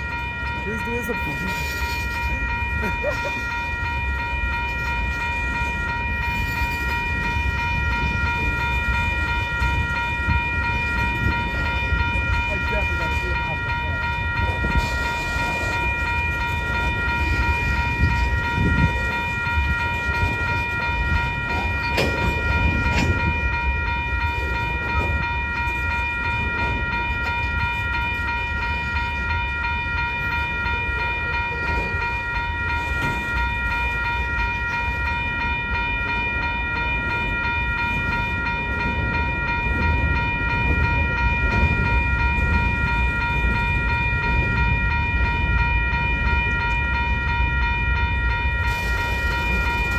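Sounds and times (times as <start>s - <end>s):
freight train cars rumbling: 0.0s - 49.9s
high-pitched ringing tone: 0.0s - 49.9s.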